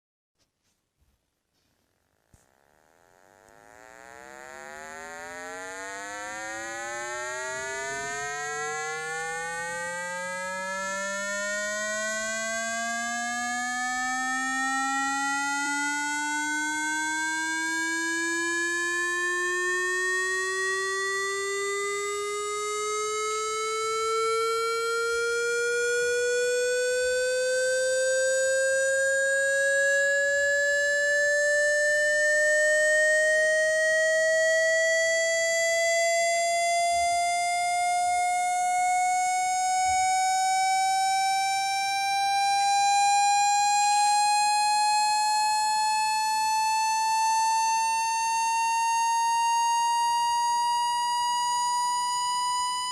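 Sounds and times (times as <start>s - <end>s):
tone gliding upward in pitch: 2.9s - 52.9s.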